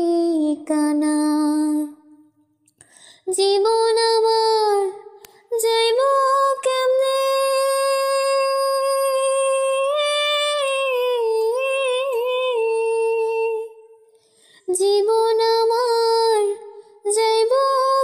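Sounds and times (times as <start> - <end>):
woman singing unaccompanied: 0.0 - 2.0, 3.3 - 13.9, 14.7 - 18.0.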